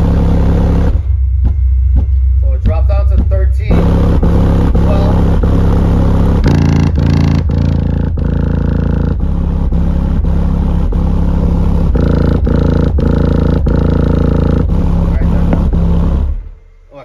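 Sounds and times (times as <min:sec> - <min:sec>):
loud pulsing subwoofer bass: 0:00.0 - 0:17.0.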